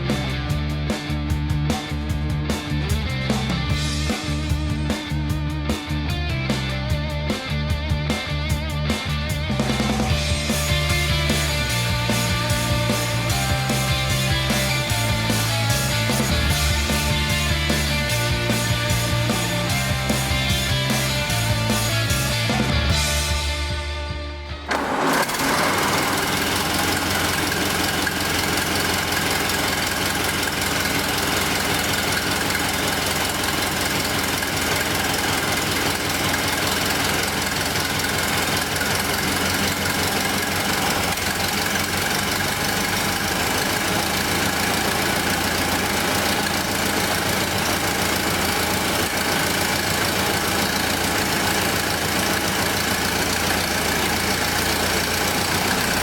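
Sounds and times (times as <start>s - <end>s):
car engine running steadily: 0.0s - 56.0s.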